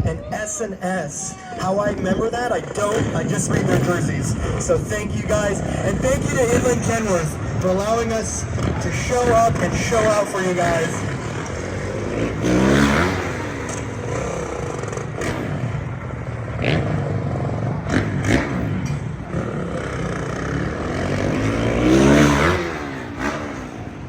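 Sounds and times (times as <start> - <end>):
motorcycle engine revving hard: 2.1 - 24.0.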